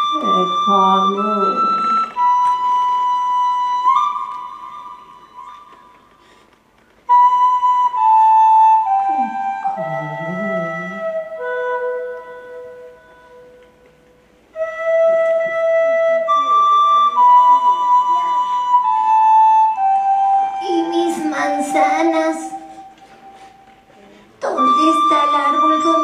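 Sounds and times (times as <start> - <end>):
flute playing slow melody: 0.0 - 6.4, 7.0 - 26.0.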